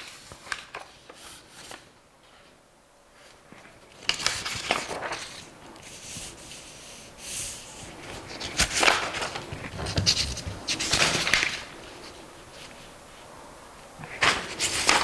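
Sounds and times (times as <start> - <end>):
paper rustling and sliding on table: 0.0 - 2.6, 3.2 - 13.3, 14.0 - 15.0.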